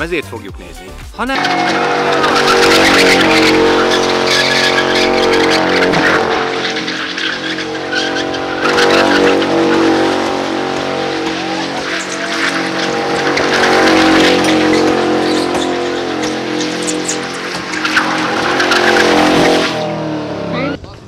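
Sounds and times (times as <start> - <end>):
tyres squealing on concrete: 1.3 - 20.0
car engine at high revs: 1.3 - 21.0.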